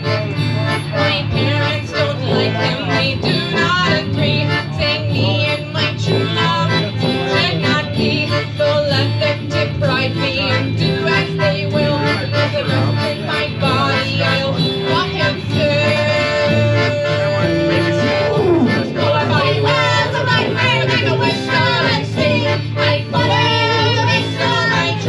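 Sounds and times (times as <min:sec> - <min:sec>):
accordion: 0:00.0 - 0:25.0
fast fiddle melody: 0:00.0 - 0:25.0
sousaphone bass line: 0:00.0 - 0:25.0
strummed guitar: 0:00.0 - 0:25.0.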